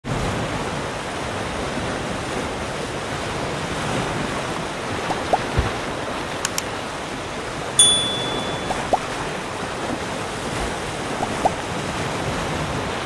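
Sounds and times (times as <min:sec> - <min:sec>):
waves washing over stones: 0:00.1 - 0:07.8, 0:08.9 - 0:13.0.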